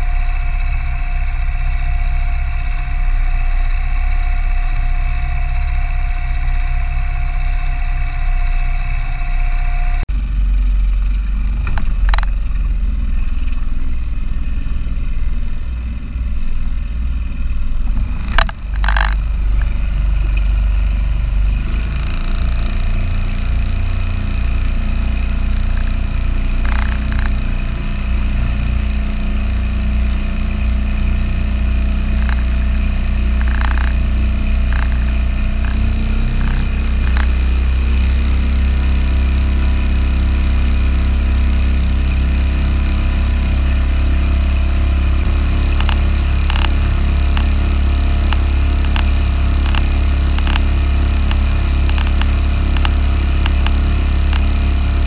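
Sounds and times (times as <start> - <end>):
engine drone with whine: 0.0 - 55.0
small motor running: 0.0 - 55.0.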